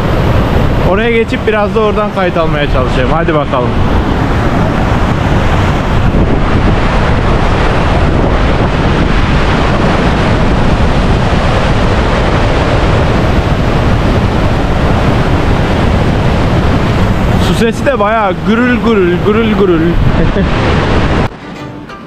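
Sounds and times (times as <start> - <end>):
river rapids roaring: 0.0 - 22.0.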